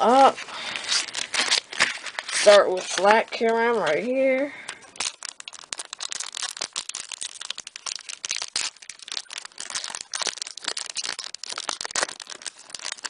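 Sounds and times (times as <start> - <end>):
foil wrapper crinkling: 0.0 - 13.0.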